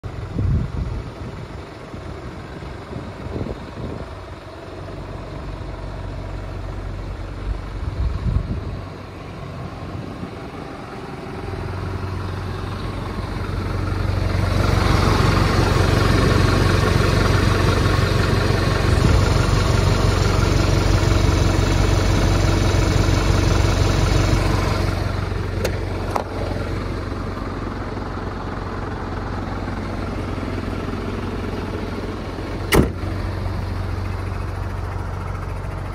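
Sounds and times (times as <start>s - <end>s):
truck diesel engine running: 0.0s - 35.9s.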